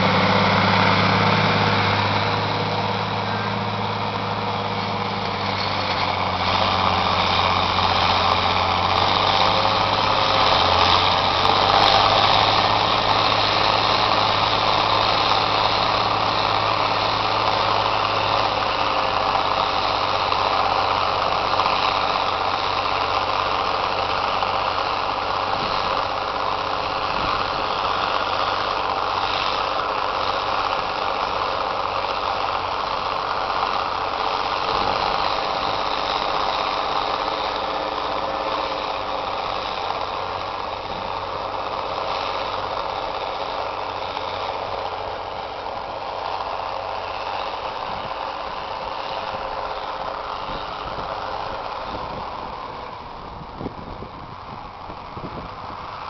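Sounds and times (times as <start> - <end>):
diesel tractor engine under load: 0.0 - 56.0.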